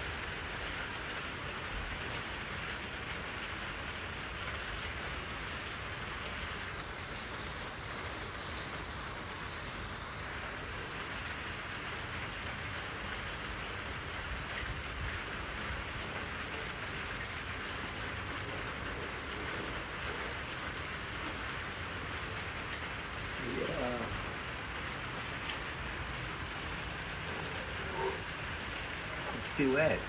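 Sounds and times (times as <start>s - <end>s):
steady rain-like hiss: 0.0s - 30.0s.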